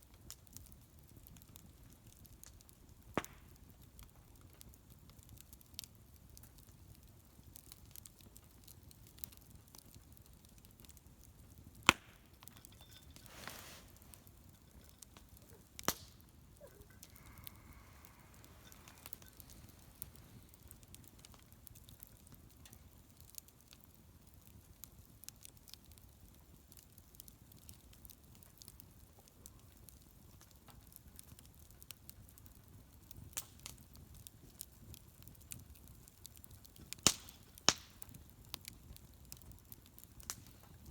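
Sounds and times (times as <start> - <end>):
bonfire crackling: 0.0 - 40.9
fire popping: 0.0 - 40.9.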